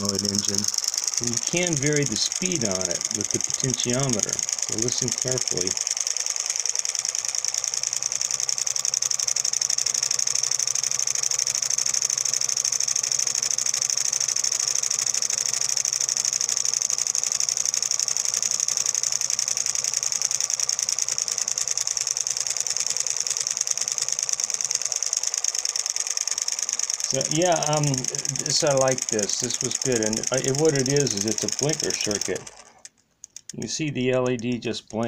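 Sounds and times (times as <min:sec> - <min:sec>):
solenoid engine fast clicking: 0:00.0 - 0:35.0.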